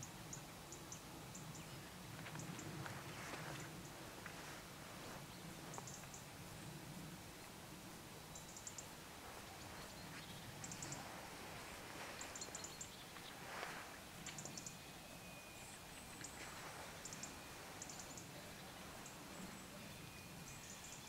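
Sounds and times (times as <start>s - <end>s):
small birds ticking calls: 0.0s - 21.0s.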